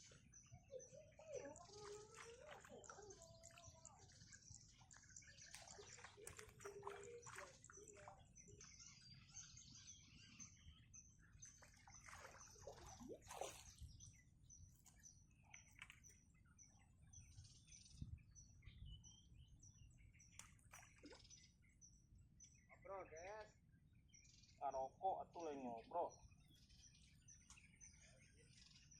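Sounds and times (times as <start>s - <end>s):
faint bird chirps: 0.0s - 28.9s.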